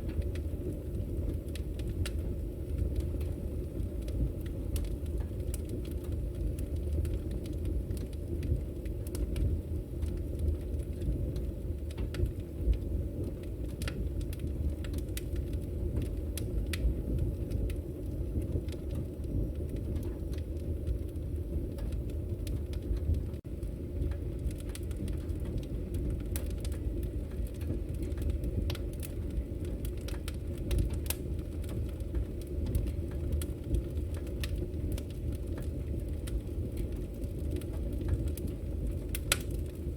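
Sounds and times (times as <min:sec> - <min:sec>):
burning wood crackling: 0:00.0 - 0:39.9
low rumble of flames: 0:00.0 - 0:39.9.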